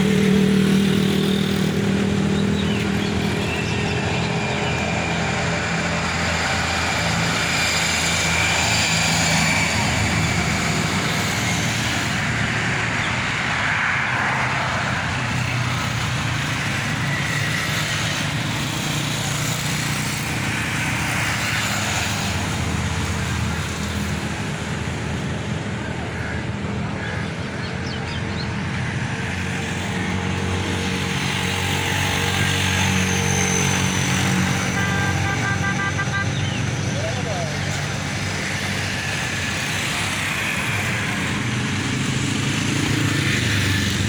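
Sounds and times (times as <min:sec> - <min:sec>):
road traffic: 0:00.0 - 0:44.0.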